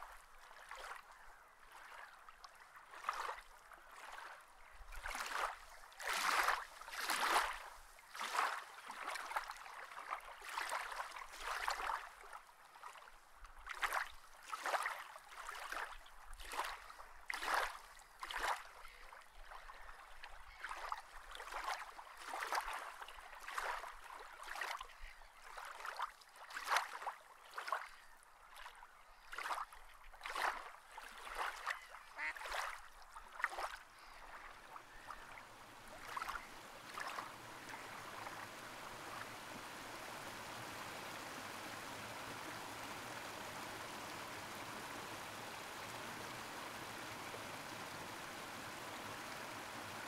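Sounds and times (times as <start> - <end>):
water sloshing and lapping: 0.0 - 50.0.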